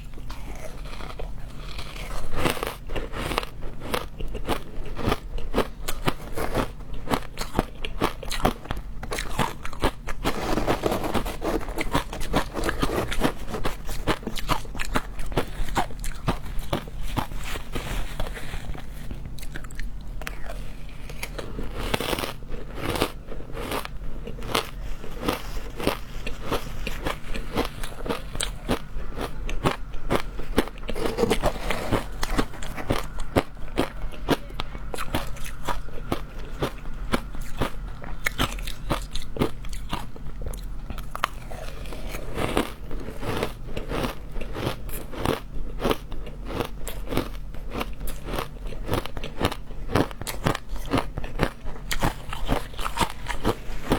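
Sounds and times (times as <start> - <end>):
ice crunching while chewed: 0.0 - 53.9.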